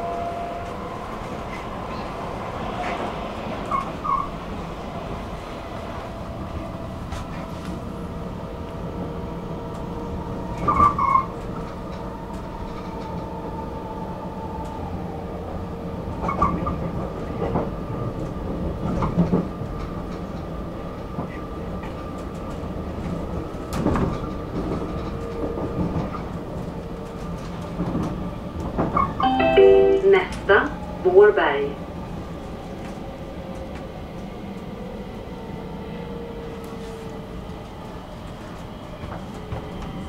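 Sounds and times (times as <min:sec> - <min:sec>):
train clatter over rails: 0:00.0 - 0:13.4, 0:16.1 - 0:34.9, 0:36.4 - 0:40.0
train rumble and motor hum: 0:00.0 - 0:40.0.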